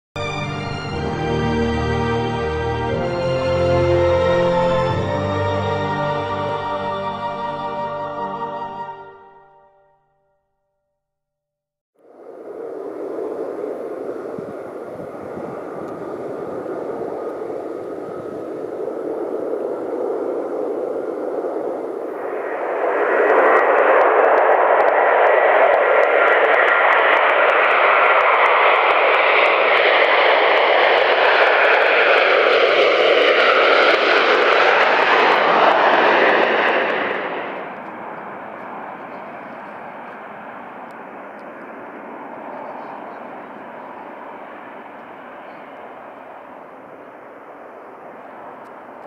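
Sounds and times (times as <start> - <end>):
jet engine roar: 0.2 - 8.4, 12.0 - 49.0.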